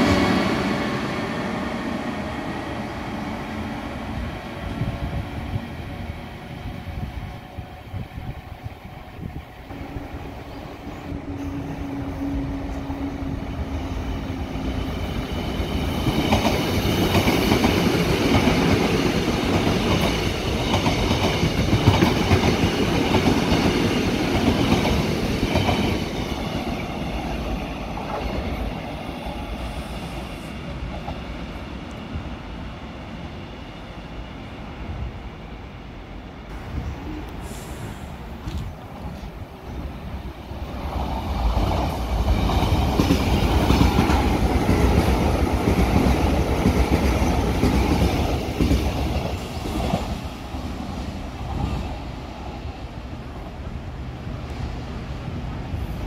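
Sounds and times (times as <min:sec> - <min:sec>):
electric train hum: 0:00.0 - 0:56.0
high-speed train passing: 0:00.0 - 0:56.0.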